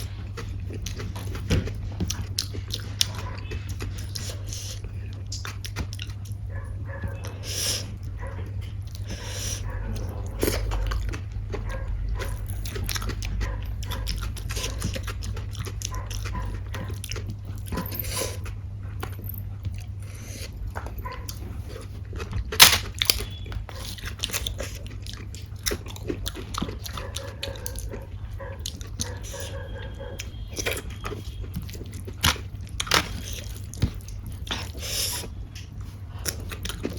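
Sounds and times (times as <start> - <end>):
person chewing and smacking: 0.0 - 36.9
steady low hum: 0.0 - 36.9.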